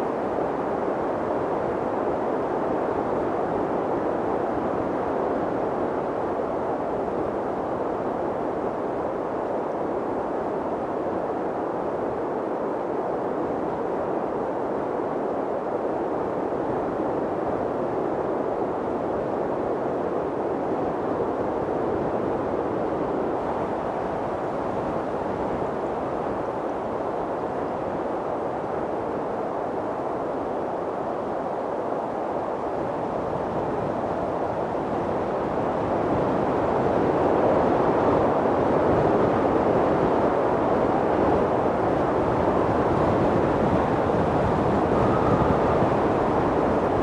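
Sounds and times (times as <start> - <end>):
mountain wind rushing: 0.0 - 47.0.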